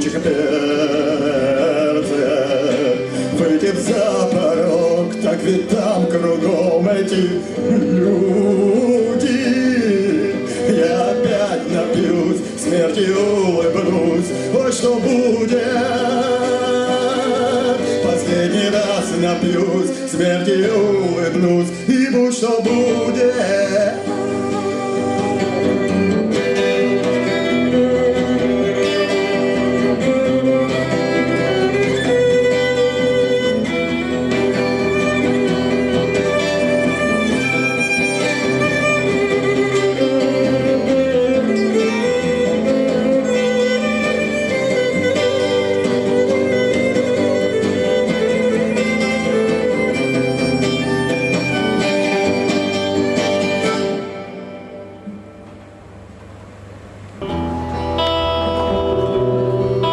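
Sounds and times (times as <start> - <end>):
violin melody: 0.0 - 55.0, 57.2 - 59.9
guitar accompaniment: 0.0 - 59.9.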